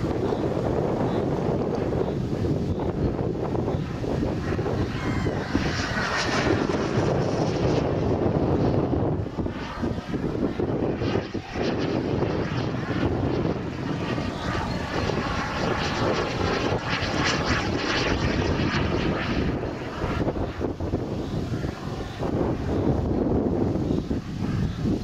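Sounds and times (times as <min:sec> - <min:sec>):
model jet engine rushing: 0:00.0 - 0:25.0.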